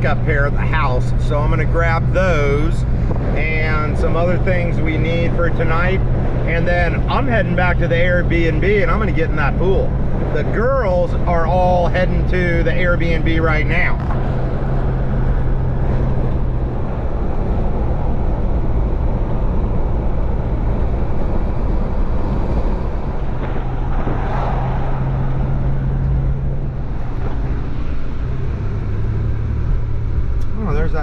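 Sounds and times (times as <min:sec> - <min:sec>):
road noise: 0:00.0 - 0:31.0
vehicle engine hum: 0:00.0 - 0:31.0.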